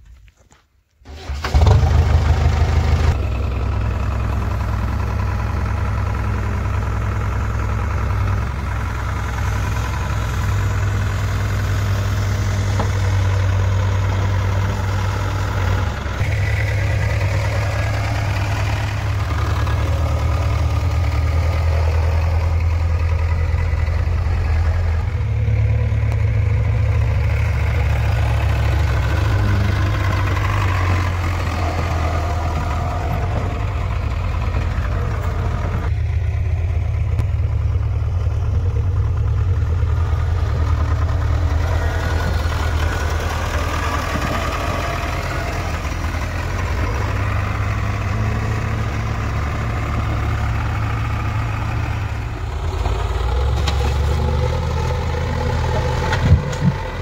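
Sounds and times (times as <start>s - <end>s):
diesel engine running: 1.1s - 57.0s.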